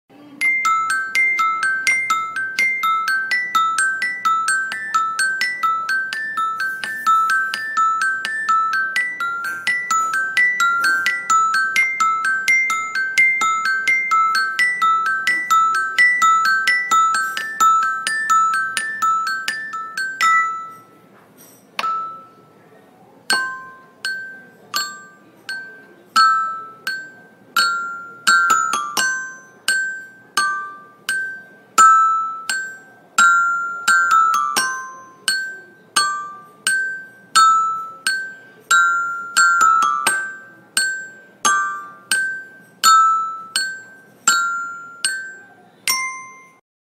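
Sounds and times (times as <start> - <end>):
mallet percussion melody: 0.4 - 22.6, 23.3 - 46.6.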